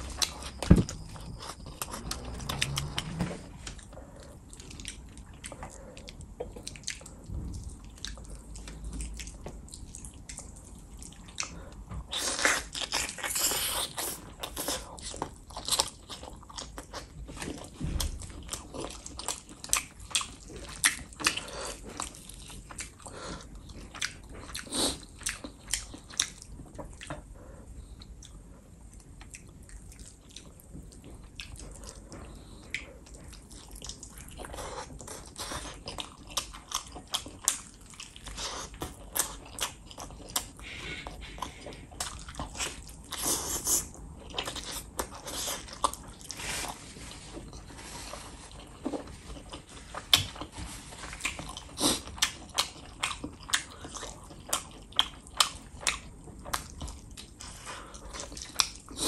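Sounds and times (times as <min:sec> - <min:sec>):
biting and chewing with mouth clicks: 0:00.0 - 0:59.0.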